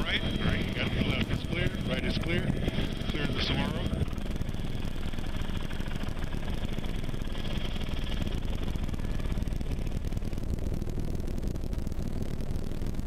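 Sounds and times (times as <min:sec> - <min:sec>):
helicopter turbine and rotor: 0:00.0 - 0:13.0.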